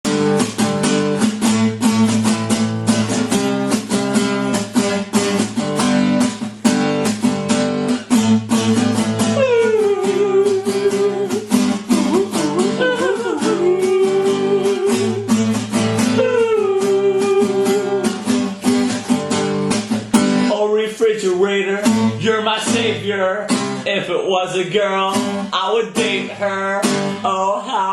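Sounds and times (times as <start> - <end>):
strummed acoustic guitar: 0.0 - 27.9.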